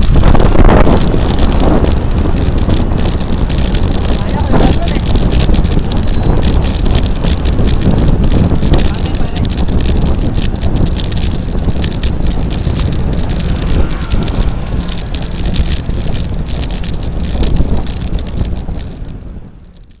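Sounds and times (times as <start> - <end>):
bicycle rattling clicks: 0.0 - 20.0
wind rushing over microphone: 0.0 - 20.0.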